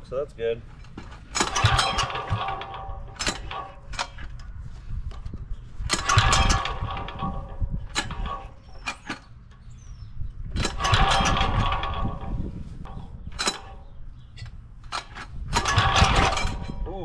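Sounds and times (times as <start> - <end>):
pull-start rope whir: 1.0 - 9.4, 10.4 - 14.0, 14.8 - 16.9.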